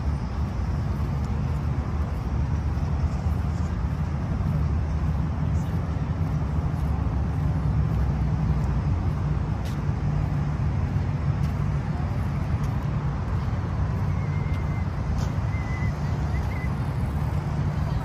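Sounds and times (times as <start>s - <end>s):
low rumble of road traffic: 0.0s - 18.0s.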